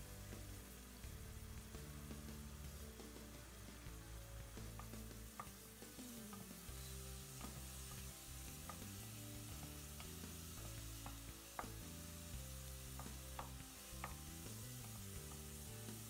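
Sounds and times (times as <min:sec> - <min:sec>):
onion sizzling in hot oil: 0:00.0 - 0:16.0
soft background music: 0:00.0 - 0:16.0.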